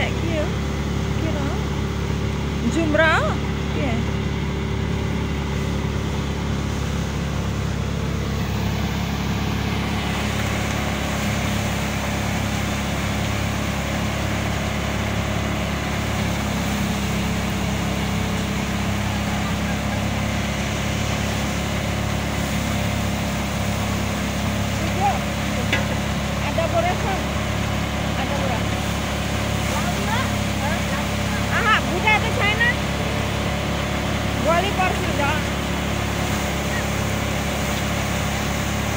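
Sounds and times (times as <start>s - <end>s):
mechanical thresher drone: 0.0s - 38.9s.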